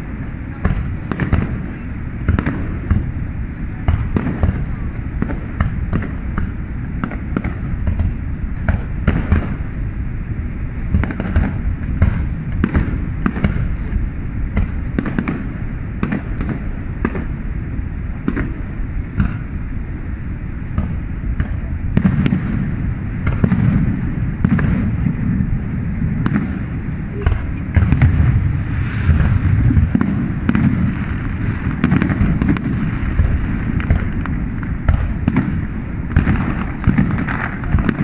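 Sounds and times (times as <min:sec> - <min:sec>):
fireworks bangs and crackles: 0:00.0 - 0:38.0
low rumble: 0:00.0 - 0:38.0.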